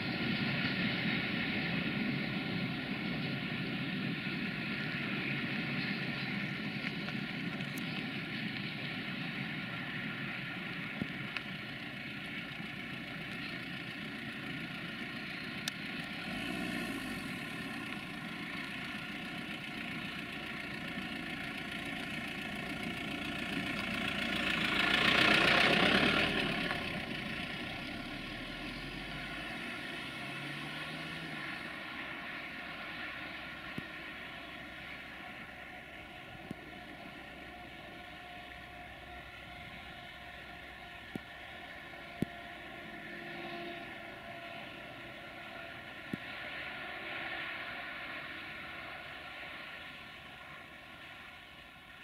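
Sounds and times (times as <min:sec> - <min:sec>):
drone propellers whining: 0:00.0 - 0:51.7.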